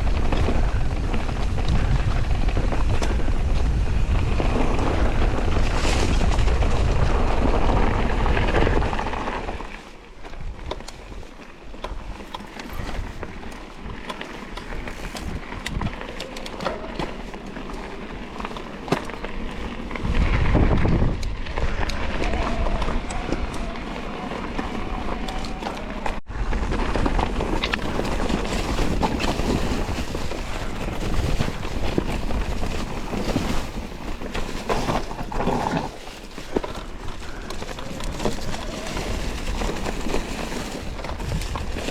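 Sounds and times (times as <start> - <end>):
tyres rolling over dirt and rocks: 0.0 - 41.9
wind buffeting microphone: 0.0 - 41.9.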